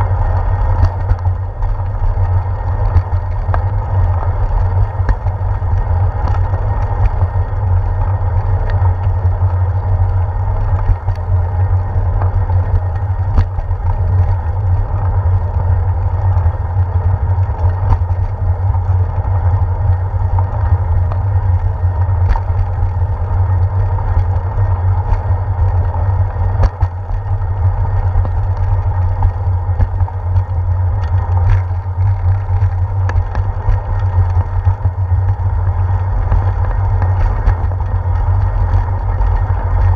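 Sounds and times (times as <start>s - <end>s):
bicycle road vibration: 0.0s - 39.9s
wind rumble: 0.0s - 39.9s.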